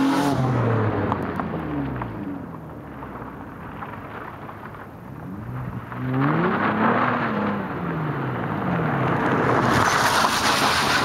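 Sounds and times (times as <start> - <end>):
car engine under throttle: 0.0 - 11.0.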